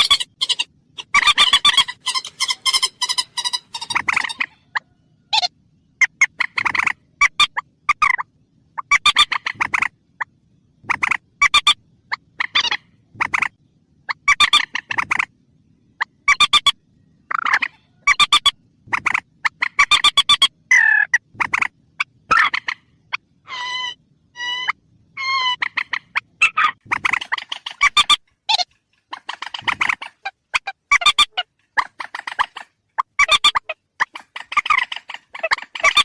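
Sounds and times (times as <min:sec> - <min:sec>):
rail bird rattling calls: 0:00.0 - 0:36.0.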